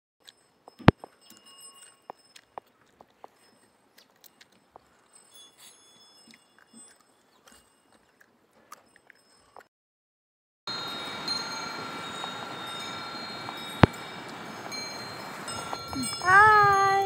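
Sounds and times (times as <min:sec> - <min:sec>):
faint bell-like chiming: 0:00.2 - 0:09.7, 0:10.7 - 0:17.0.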